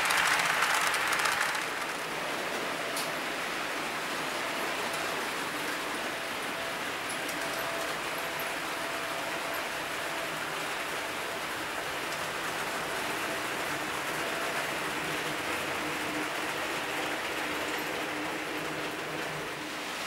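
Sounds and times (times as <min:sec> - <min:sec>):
model train wheels on rails: 0:00.0 - 0:20.0.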